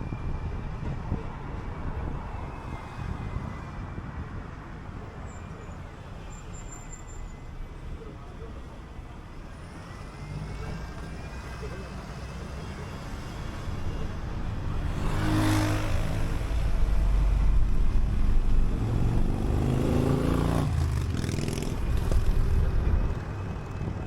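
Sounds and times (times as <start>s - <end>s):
bus engine rumbling under load: 0.0s - 24.0s.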